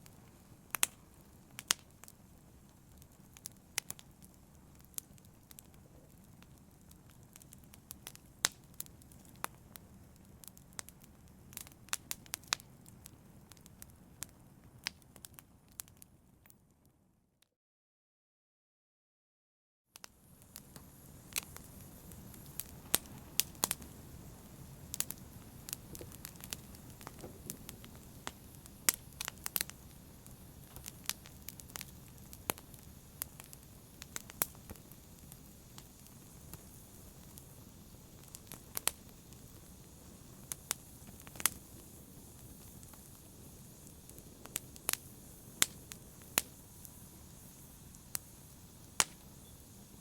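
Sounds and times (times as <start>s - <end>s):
fire crackling and popping: 0.0s - 16.6s, 20.0s - 50.0s.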